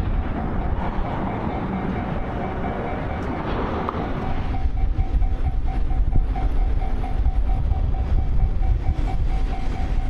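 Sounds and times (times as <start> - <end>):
train rumbling: 0.0 - 10.0
level-crossing bell ringing: 0.5 - 10.0.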